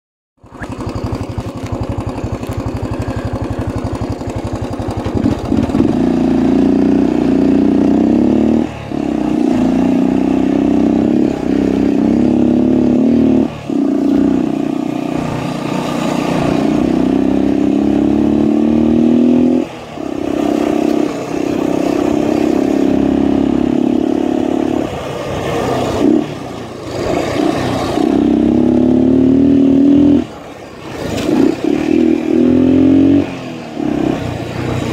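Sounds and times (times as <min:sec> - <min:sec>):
motorcycle engine revving: 0:00.4 - 0:34.9.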